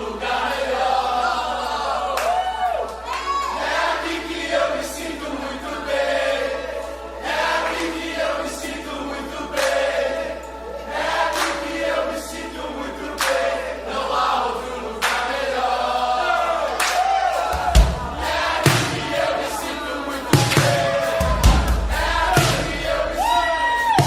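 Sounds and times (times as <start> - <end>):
congregation singing worship song: 0.0 - 24.0.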